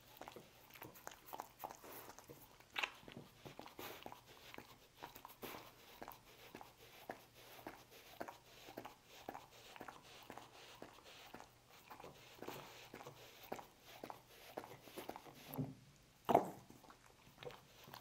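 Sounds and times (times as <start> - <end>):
dog licking and smacking: 0.0 - 15.6, 16.3 - 18.0.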